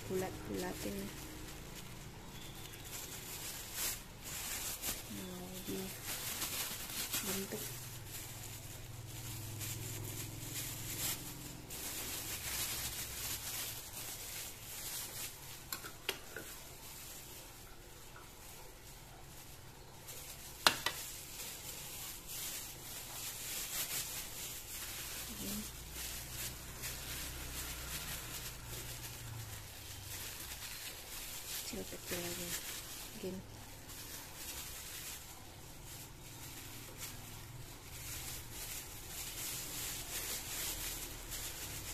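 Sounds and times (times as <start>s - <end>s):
plastic gloves rustling: 0.0s - 41.9s.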